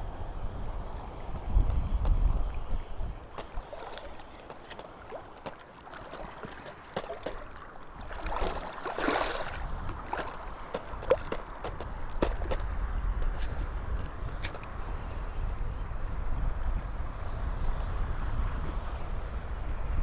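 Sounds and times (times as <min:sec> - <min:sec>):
wind rumble on microphone: 0:00.0 - 0:04.5, 0:06.2 - 0:20.0
sea waves washing over reef: 0:00.0 - 0:17.0.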